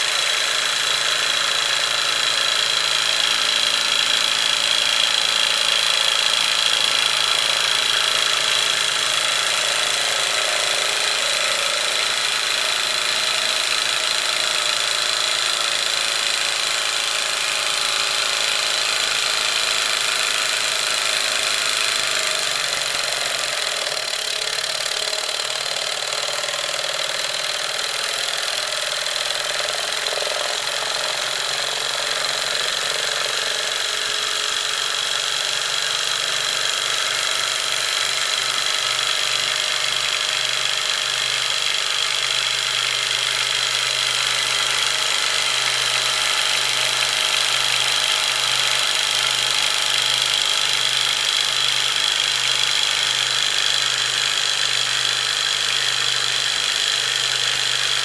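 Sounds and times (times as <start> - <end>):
small engine mechanical whir: 0.0 - 58.0.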